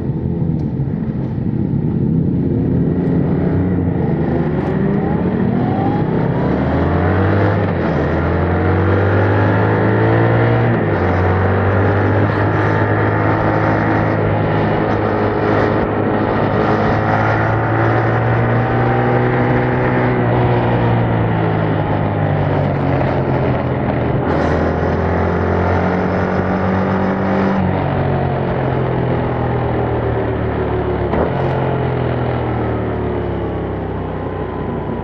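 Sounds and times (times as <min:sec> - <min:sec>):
motorcycle engine revving while riding: 0:00.0 - 0:35.0.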